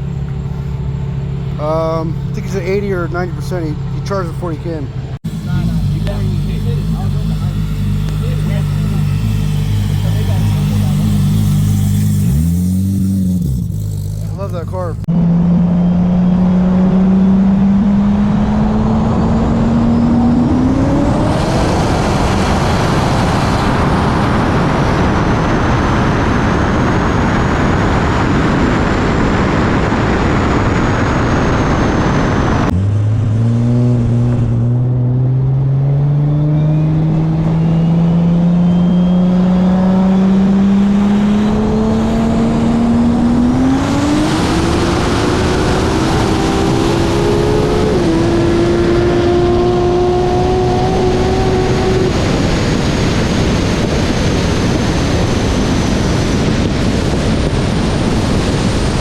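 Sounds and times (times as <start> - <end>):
car engine at full throttle: 0.0 - 59.0
intake and wind rush: 0.0 - 59.0.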